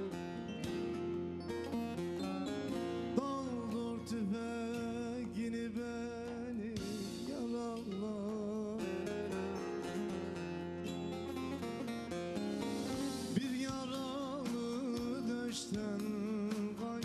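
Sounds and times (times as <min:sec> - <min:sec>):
plucked long-necked lute: 0:00.0 - 0:13.6
man singing wavering folk song: 0:02.6 - 0:12.4, 0:13.0 - 0:17.0.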